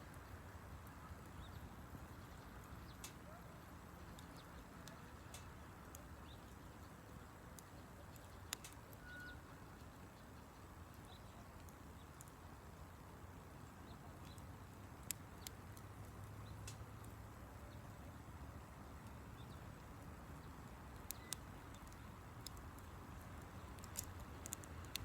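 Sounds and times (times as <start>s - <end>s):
wood fire crackling: 0.2s - 25.0s.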